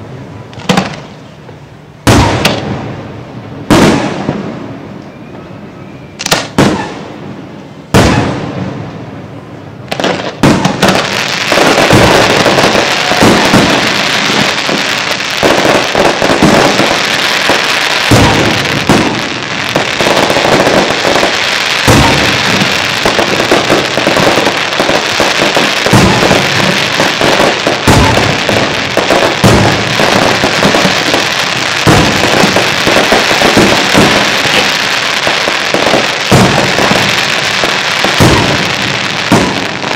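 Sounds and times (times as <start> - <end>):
fireworks booming and crackling: 0.0 - 5.4, 6.2 - 39.9
firework bangs: 0.6 - 1.2, 2.0 - 4.8, 6.2 - 9.0, 9.8 - 39.9.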